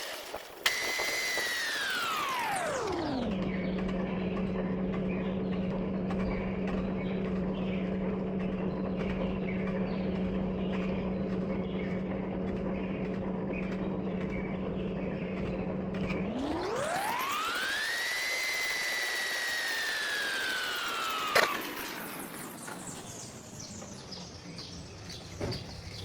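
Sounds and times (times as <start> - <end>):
metal lathe humming: 0.0 - 23.9.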